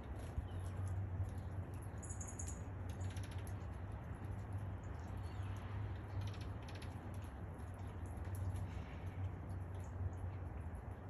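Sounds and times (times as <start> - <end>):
steady rain hiss: 0.0 - 2.0, 2.6 - 11.0.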